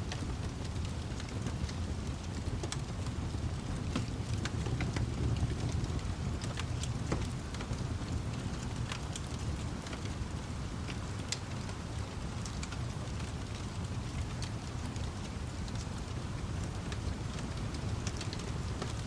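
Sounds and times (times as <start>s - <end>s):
low continuous rumble: 0.0s - 19.0s
rain hissing: 0.0s - 19.0s
wood fire crackling: 0.0s - 19.0s.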